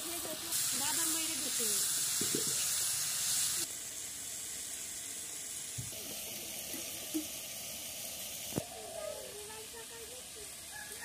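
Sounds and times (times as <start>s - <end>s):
steady hiss: 0.0s - 11.0s
vegetables sizzling in a wok: 0.0s - 11.0s.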